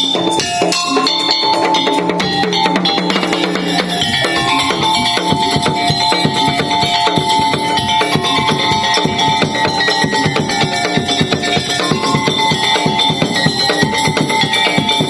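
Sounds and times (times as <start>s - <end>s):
fast drum and percussion strikes: 0.0s - 15.0s
held melodic line: 0.0s - 15.0s.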